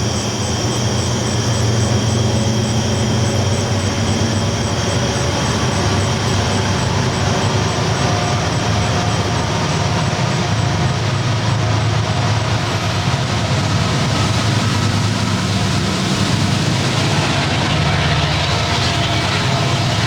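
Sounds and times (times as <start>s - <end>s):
train rumbling on tracks: 0.0s - 20.0s.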